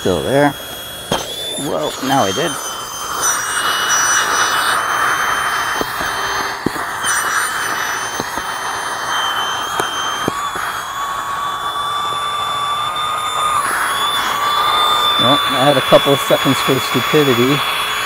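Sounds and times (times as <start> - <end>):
electric air pump whining: 0.0 - 18.0.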